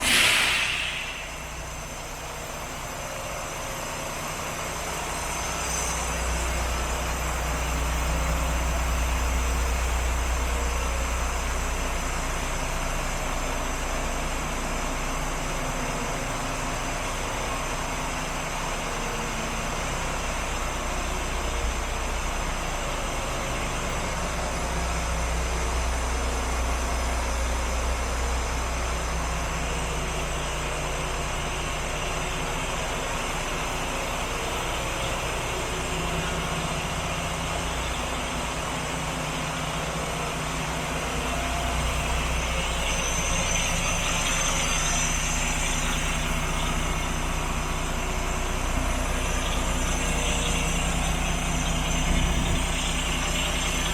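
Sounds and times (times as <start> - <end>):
diesel truck engine idling: 6.2 - 53.9.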